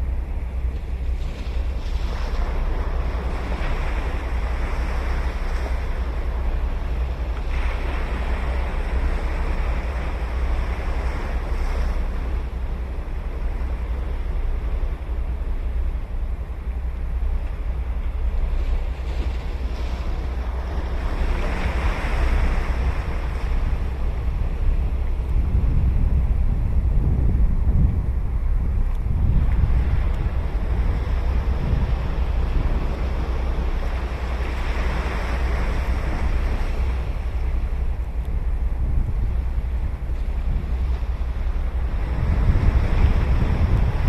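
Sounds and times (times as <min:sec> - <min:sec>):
ocean waves breaking: 0:00.0 - 0:44.0
wind rumble on microphone: 0:00.0 - 0:44.0.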